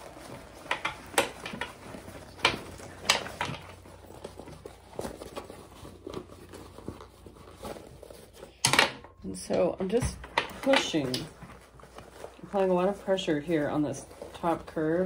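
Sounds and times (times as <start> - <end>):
fabric rustling and crinkling: 0.0 - 15.0.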